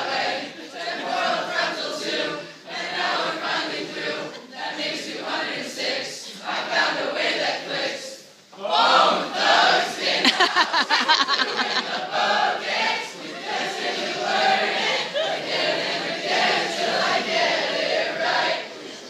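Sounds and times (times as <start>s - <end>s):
group singing and chanting: 0.0s - 19.0s.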